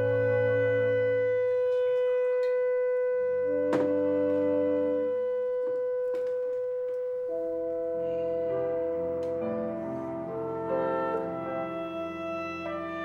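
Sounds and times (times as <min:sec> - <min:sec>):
slow chamber ensemble music: 0:00.0 - 0:13.0.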